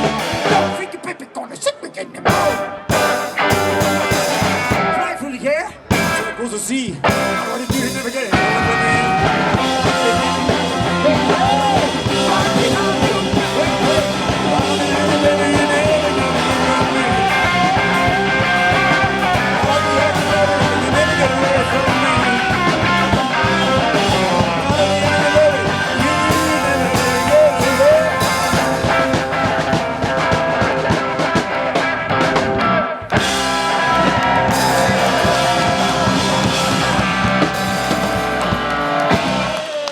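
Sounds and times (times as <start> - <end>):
rock and roll band playing live: 0.0 - 39.9.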